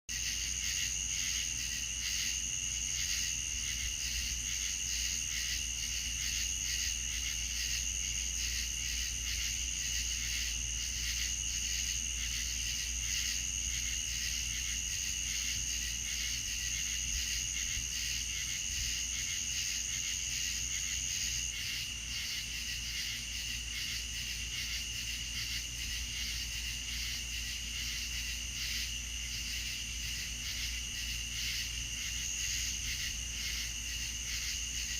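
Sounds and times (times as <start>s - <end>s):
crickets and insects trilling: 0.1s - 34.9s.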